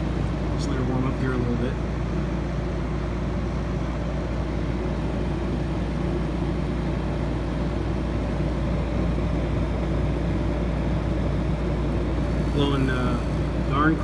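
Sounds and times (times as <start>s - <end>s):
air conditioner humming: 0.0s - 14.0s.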